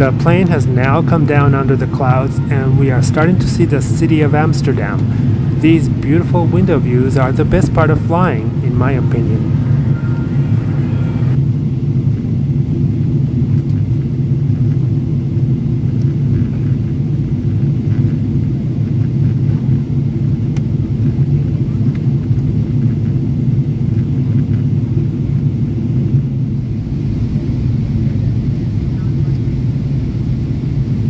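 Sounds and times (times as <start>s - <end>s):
jet airliner cabin rumble: 0.0s - 31.0s.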